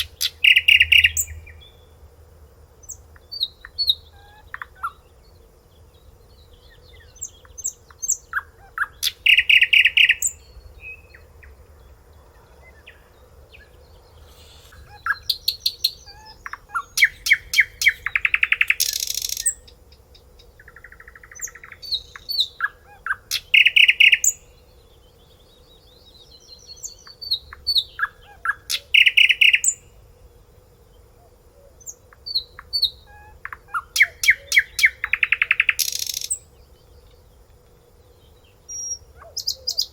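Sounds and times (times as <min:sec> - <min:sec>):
faint steady hum: 0:00.0 - 0:39.9
songbird singing: 0:00.0 - 0:39.9.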